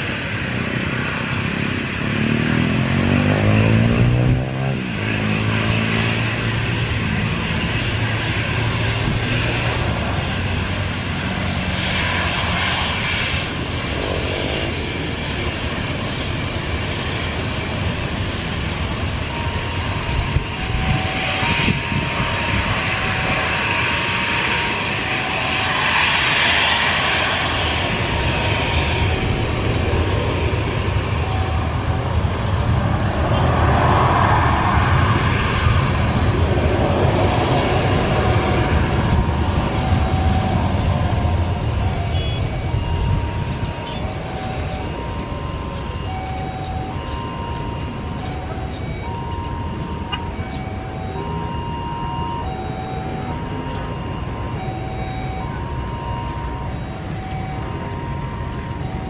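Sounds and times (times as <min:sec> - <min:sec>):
airliner engines passing close: 0:00.0 - 0:59.0.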